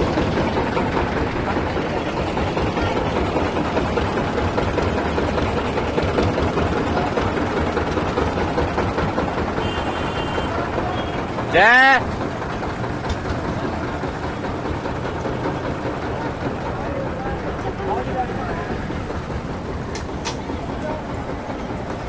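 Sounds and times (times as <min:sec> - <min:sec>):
moving vehicle engine rumbling: 0:00.0 - 0:22.0.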